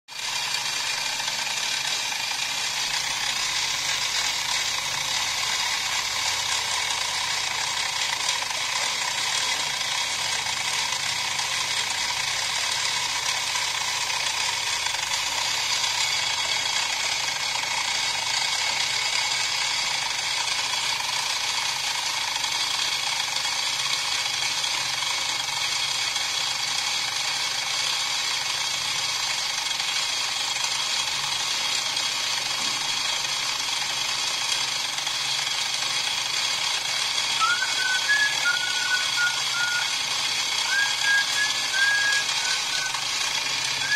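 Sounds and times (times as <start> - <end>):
milling machine cutting steel: 0.1 - 43.9.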